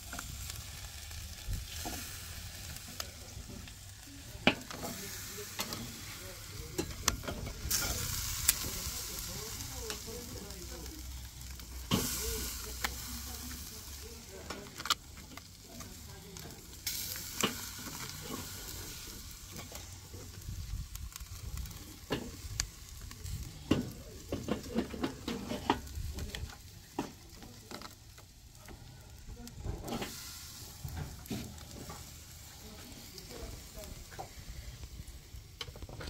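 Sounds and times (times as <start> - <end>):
steaks sizzling on grill: 0.0 - 36.0.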